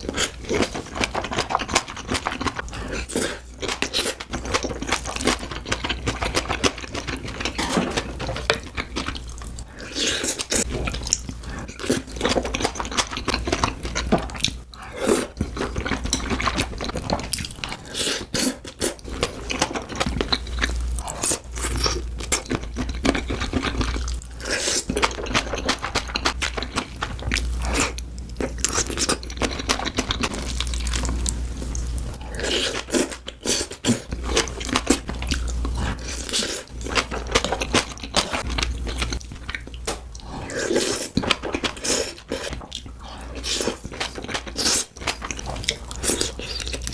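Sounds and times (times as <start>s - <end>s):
person crunching and chewing: 0.0s - 46.9s.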